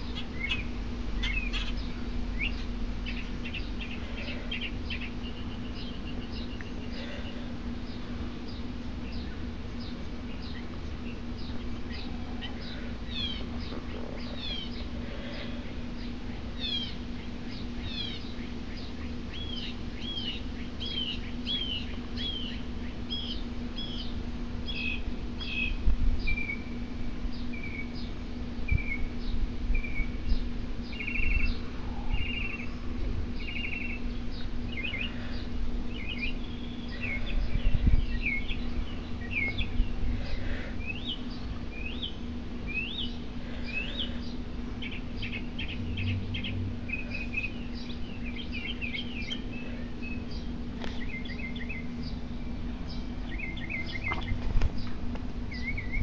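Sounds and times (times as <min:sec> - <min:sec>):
small birds chirping: 0:00.0 - 0:56.0
steady low hum: 0:00.0 - 0:56.0.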